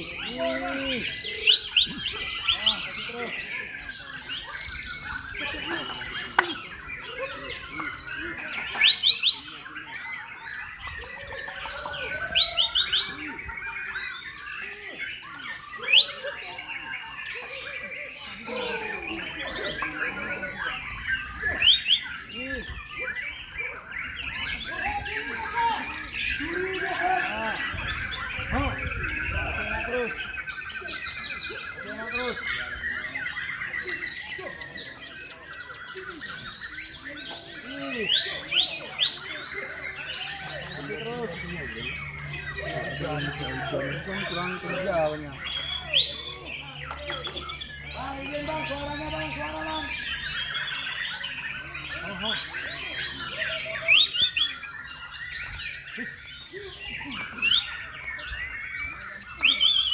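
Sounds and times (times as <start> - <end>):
chorus of caged songbirds: 0.0 - 59.9.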